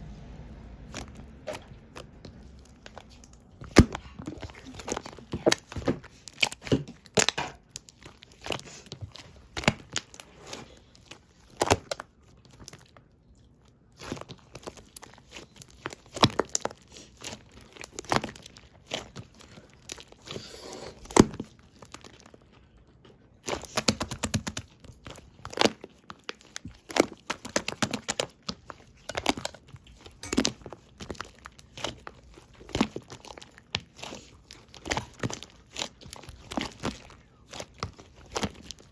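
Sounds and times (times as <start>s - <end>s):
slime bubbles popping and crackling: 0.8s - 20.4s, 21.0s - 38.9s.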